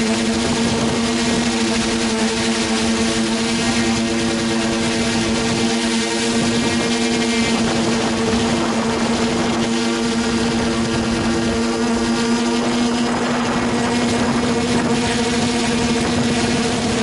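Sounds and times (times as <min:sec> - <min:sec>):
drone motors buzzing: 0:00.0 - 0:17.0.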